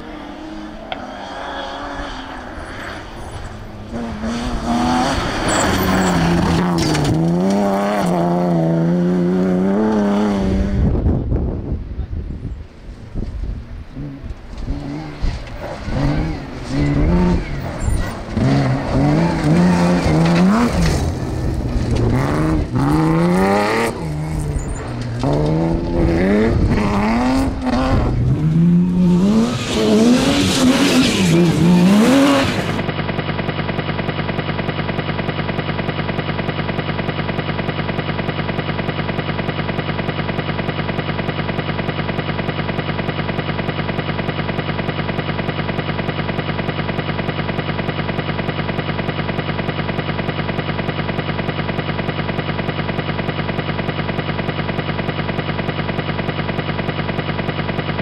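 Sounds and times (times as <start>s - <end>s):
rally car engine revving: 0.0s - 11.5s, 13.8s - 58.0s.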